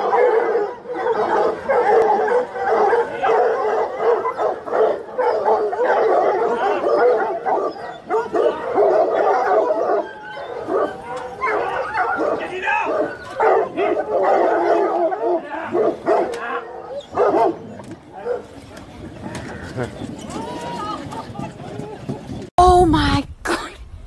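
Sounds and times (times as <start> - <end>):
hounds yelping and baying: 0.0 - 22.4.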